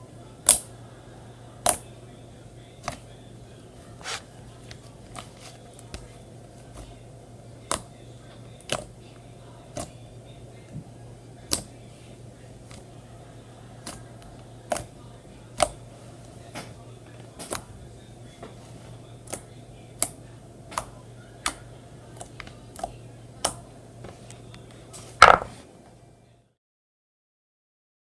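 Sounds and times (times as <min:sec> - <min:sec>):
steady low hum: 0:00.0 - 0:26.6.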